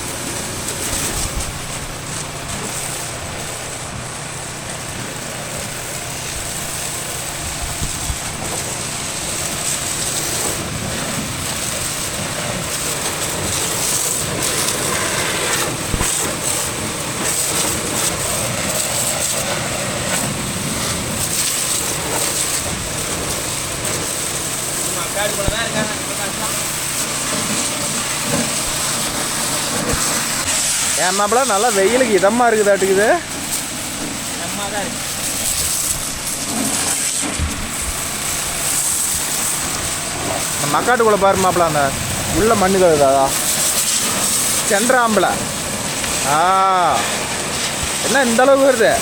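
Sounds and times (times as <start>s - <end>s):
high-pressure water jet spraying: 0.0s - 49.0s
motor humming low: 0.0s - 49.0s.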